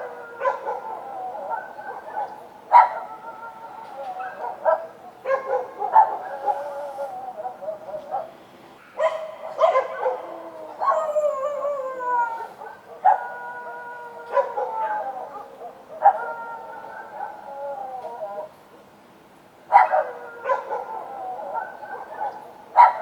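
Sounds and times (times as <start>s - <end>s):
dogs barking and howling: 0.0s - 8.4s, 9.0s - 18.6s, 19.7s - 23.0s.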